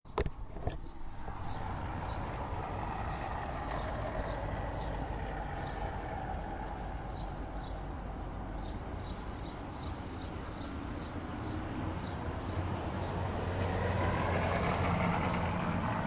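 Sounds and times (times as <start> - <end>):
city street traffic: 0.1 - 16.0.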